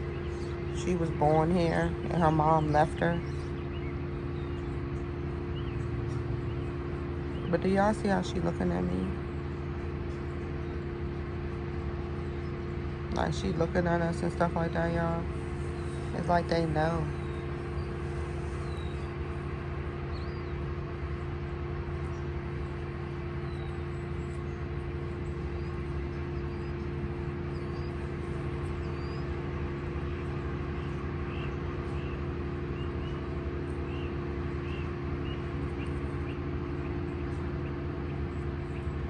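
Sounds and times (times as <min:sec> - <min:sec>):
low machine hum: 0:00.0 - 0:39.0.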